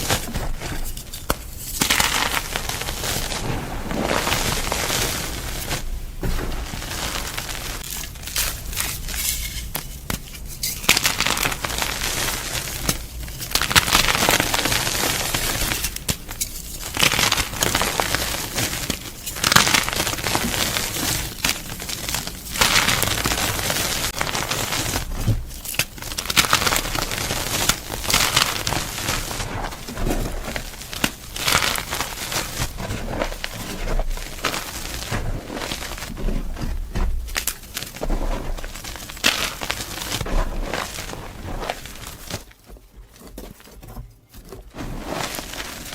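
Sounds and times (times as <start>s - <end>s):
chalk crunching and crumbling: 0.0s - 45.9s.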